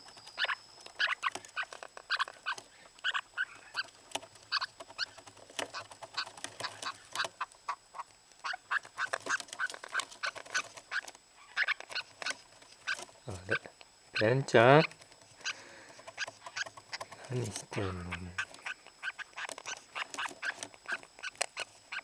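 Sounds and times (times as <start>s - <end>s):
parakeet chirping and chattering: 0.0s - 22.0s.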